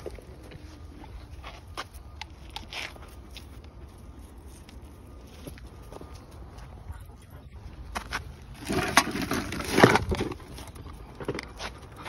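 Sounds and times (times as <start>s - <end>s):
footsteps on a path: 0.0s - 12.0s.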